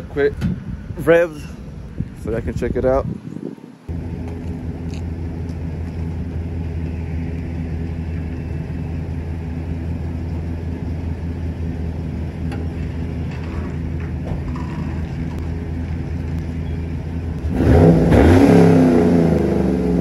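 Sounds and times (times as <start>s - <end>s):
truck exhaust idling: 3.9s - 20.0s.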